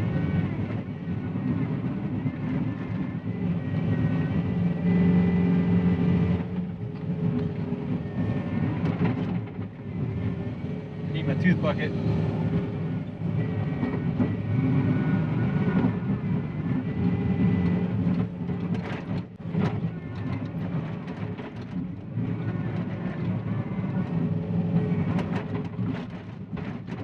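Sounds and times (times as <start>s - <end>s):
diesel engine under load: 0.0s - 27.0s.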